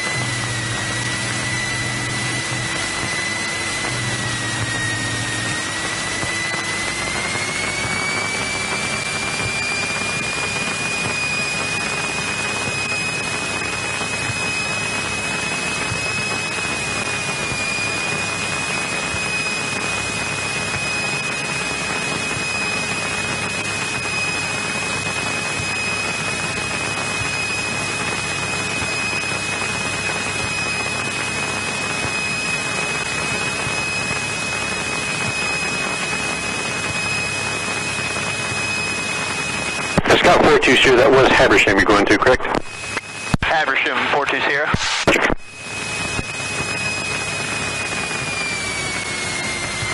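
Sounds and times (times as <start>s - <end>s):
aircraft engine running in cockpit: 0.0s - 49.9s
high-pitched whine: 0.0s - 49.9s.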